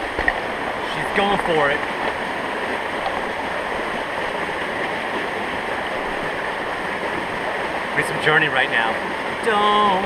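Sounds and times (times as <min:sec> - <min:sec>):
creek water running: 0:00.0 - 0:10.0.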